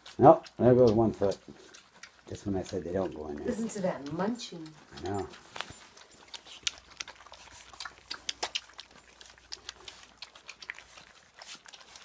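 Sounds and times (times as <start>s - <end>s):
puppies crunching food: 0.0s - 12.0s.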